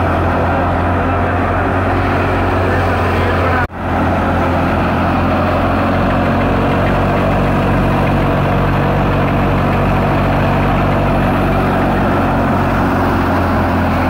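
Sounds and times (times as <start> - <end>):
wheat thresher running: 0.0 - 14.0.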